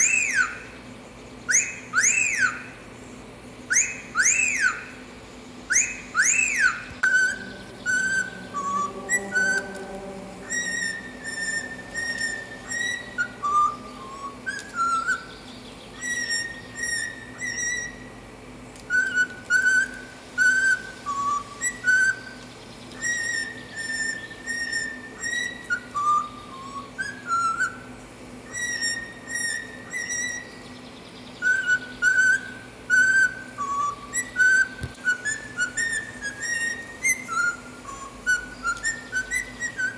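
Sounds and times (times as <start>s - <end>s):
cockatiel whistling a tune: 0.0s - 0.8s, 1.5s - 2.8s, 3.7s - 5.0s, 5.7s - 9.7s, 10.4s - 18.1s, 18.8s - 30.7s, 31.4s - 39.9s.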